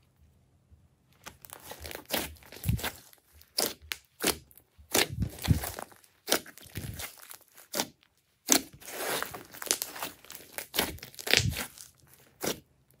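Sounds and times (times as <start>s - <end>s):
slime crackling and popping: 1.2s - 13.0s.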